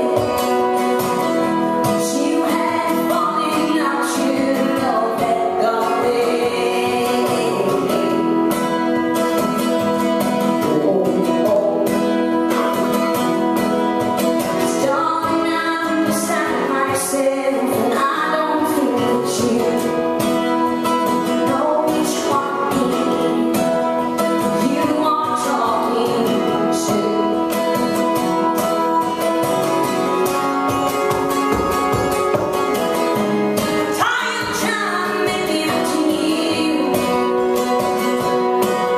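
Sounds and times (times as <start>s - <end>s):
woman singing: 0.0s - 30.2s, 33.6s - 38.9s
acoustic guitar: 0.0s - 38.9s.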